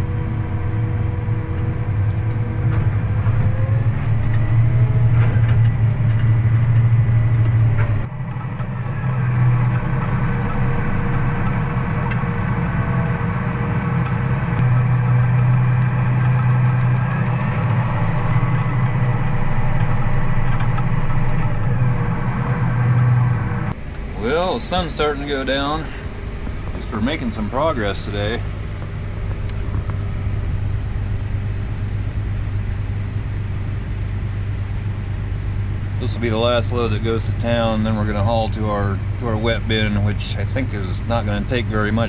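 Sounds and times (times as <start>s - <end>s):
farm machinery engine running: 0.0s - 42.0s.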